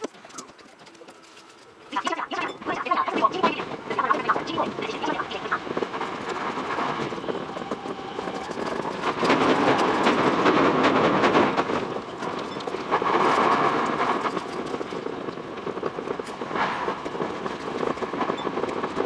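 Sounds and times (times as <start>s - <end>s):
train wheels clicking on track: 0.0s - 19.0s
train rushing noise: 0.8s - 19.0s.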